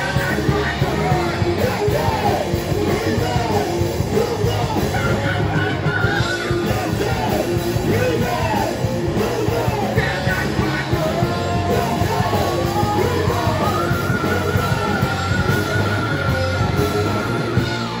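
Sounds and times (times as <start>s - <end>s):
heavy metal band playing: 0.0s - 18.0s.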